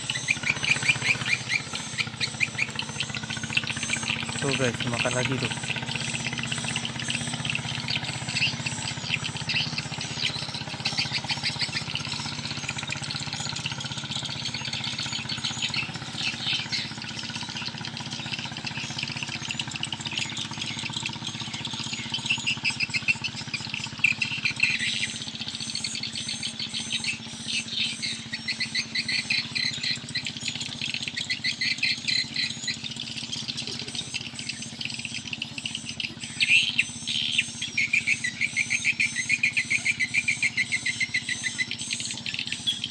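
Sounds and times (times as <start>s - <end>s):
birds chirping and calling: 0.0s - 42.9s.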